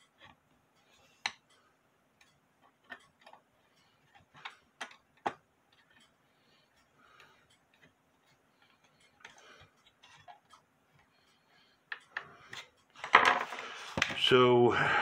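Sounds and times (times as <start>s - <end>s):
clock parts clicking and knocking: 0.0s - 14.2s.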